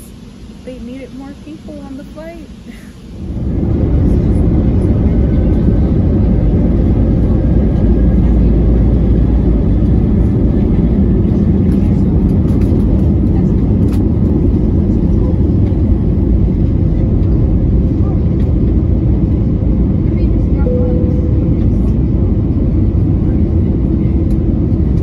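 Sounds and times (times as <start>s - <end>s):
jet engines rumbling in cabin: 0.0s - 25.0s.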